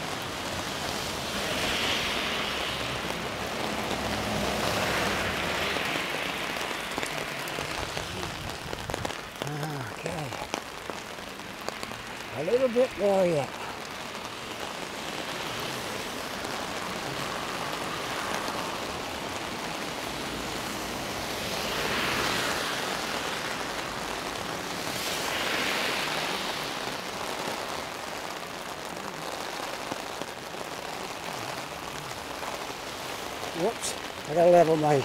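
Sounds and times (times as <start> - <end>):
heavy rain on an umbrella: 0.0 - 35.0.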